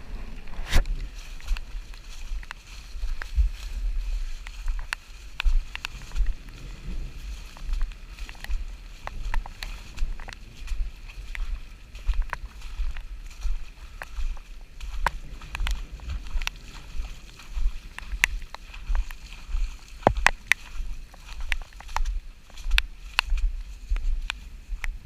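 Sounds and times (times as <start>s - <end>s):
wind rumble on microphone: 0.0s - 25.0s
wet footsteps sloshing: 0.5s - 25.0s
raindrops ticking: 4.4s - 25.0s.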